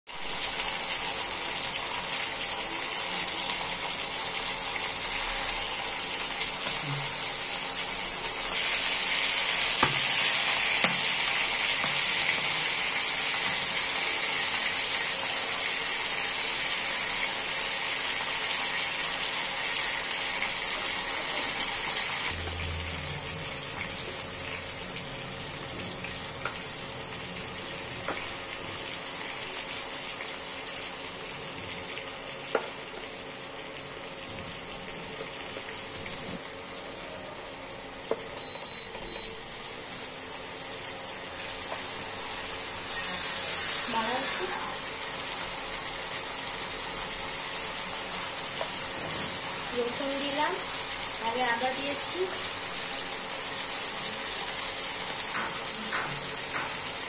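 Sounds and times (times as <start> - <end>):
chicken sizzling in hot oil: 0.1 - 57.0.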